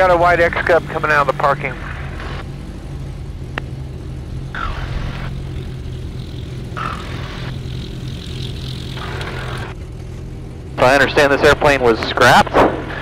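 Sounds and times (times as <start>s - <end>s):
small plane engine and propeller: 0.0s - 13.0s.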